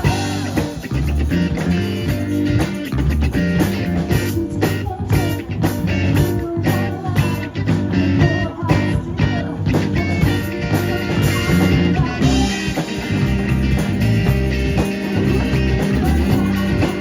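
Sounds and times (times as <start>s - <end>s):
bass guitar: 0.0s - 17.0s
electric guitar: 0.0s - 17.0s
steady drum beat: 0.0s - 17.0s.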